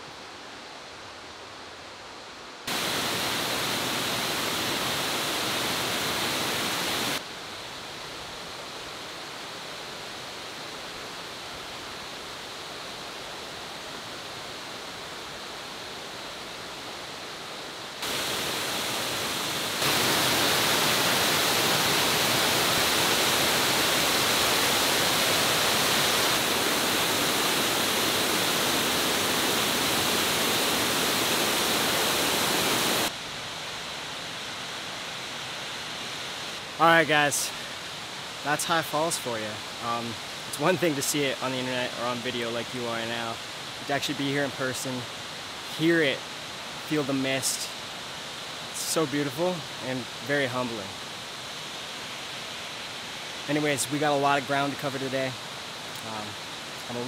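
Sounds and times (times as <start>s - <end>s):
waterfall rushing over rock: 2.7s - 57.0s.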